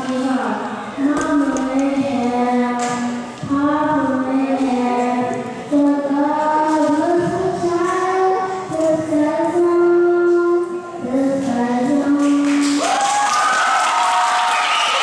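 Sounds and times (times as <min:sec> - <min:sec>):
girl singing into microphone: 0:00.0 - 0:12.8.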